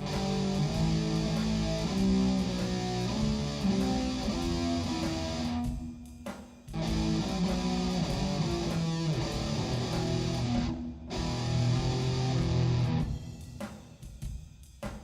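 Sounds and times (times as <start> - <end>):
guitar background music: 0.0 - 6.0, 6.7 - 13.7.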